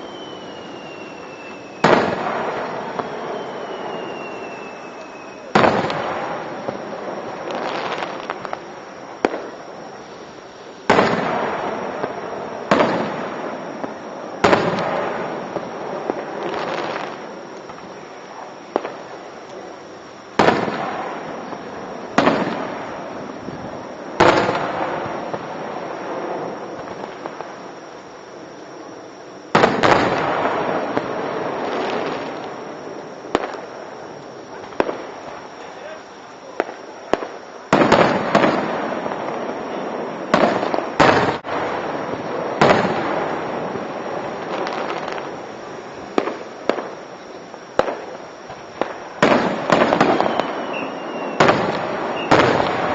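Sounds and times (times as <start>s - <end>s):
fireworks booming: 0.0s - 52.9s
fireworks pops and crackles: 0.0s - 52.9s.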